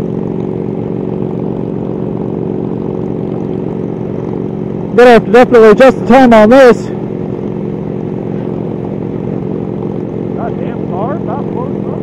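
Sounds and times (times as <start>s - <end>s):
motorcycle engine cruising drone: 0.0s - 12.0s.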